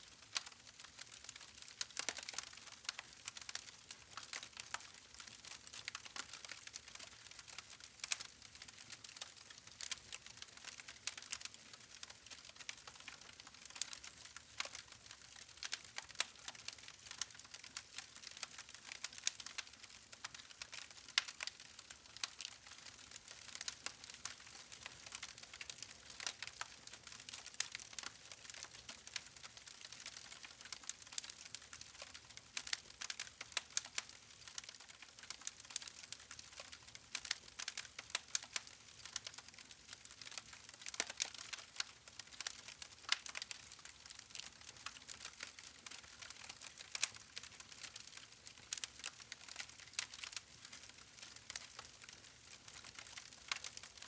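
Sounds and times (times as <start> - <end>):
wood fire crackling: 0.1 - 54.0.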